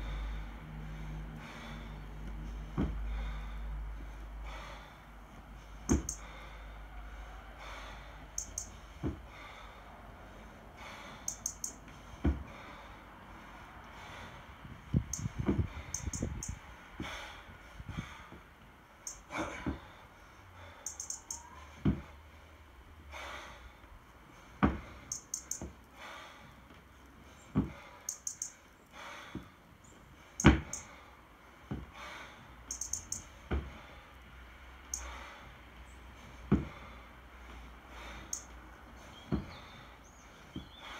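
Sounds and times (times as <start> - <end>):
hard breathing: 0.0 - 40.9.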